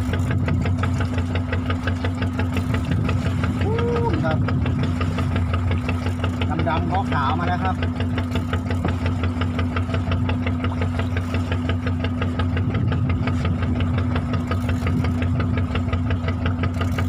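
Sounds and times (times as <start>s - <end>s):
boat engine knocking steadily: 0.0s - 17.0s.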